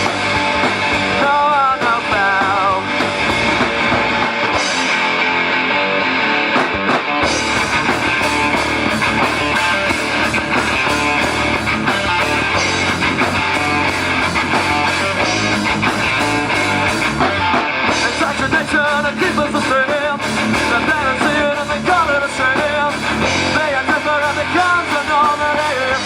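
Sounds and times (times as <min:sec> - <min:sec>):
electric guitar strumming: 0:00.0 - 0:26.0
live rock band playing: 0:00.0 - 0:26.0.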